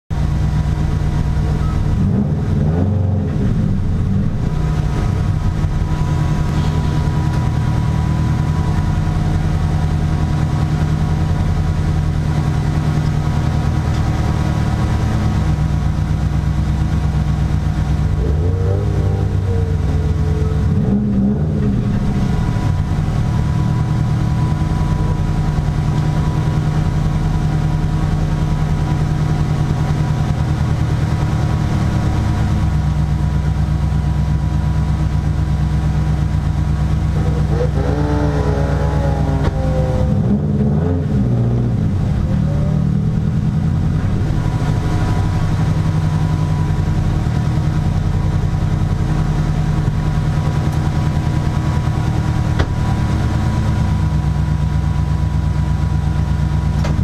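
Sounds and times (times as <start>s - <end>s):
car engine idling: 0.1s - 57.0s.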